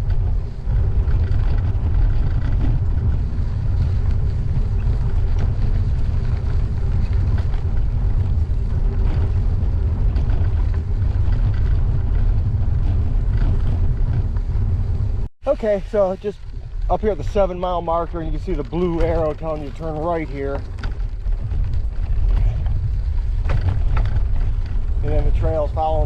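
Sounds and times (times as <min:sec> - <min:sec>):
bike tyres on gravel: 0:00.0 - 0:26.0
wind buffeting microphone: 0:00.0 - 0:26.0.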